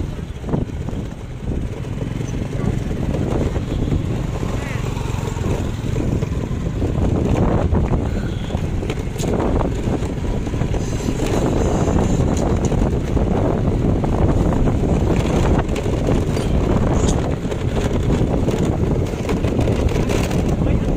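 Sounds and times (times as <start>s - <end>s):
motorbike engine: 0.0s - 20.9s
tyre noise: 0.0s - 20.9s
wind rushing over microphone: 0.0s - 20.9s.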